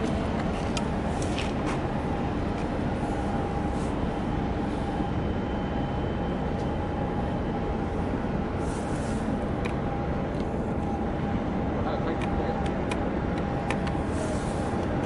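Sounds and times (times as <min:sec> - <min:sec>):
ship machinery rumbling: 0:00.0 - 0:15.0.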